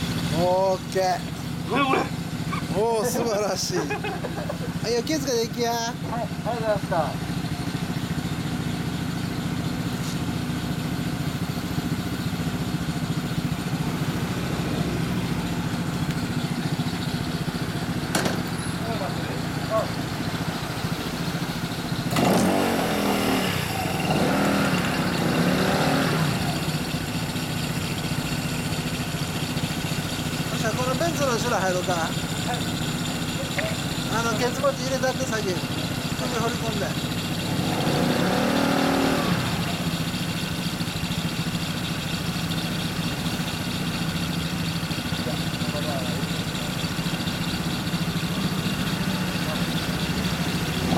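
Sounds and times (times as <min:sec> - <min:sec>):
scooter engine idling and revving: 0:00.0 - 0:50.9.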